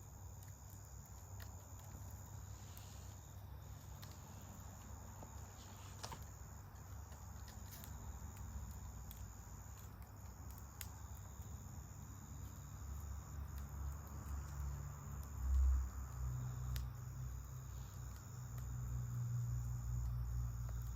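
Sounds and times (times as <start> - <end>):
campfire crackling and popping: 0.0 - 20.9
crickets trilling: 0.0 - 20.9.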